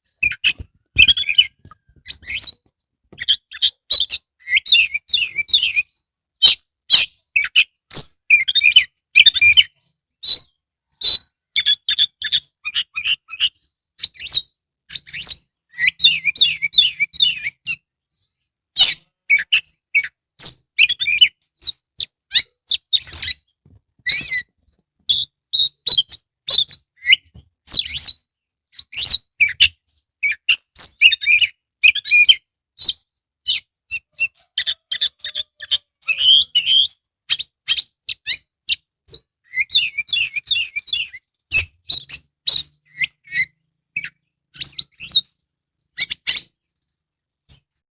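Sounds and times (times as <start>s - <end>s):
songbird singing: 0.0s - 47.8s.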